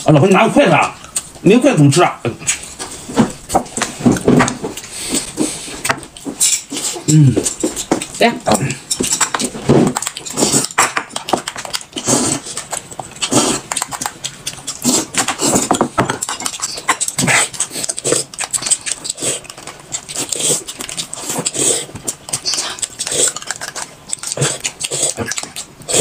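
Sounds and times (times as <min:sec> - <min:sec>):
chewing and smacking: 0:00.6 - 0:01.4, 0:02.4 - 0:26.0.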